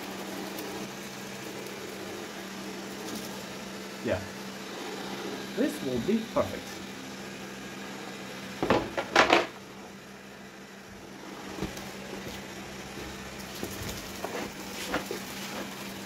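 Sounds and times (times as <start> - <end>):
robot vacuum humming: 0.0 - 16.0.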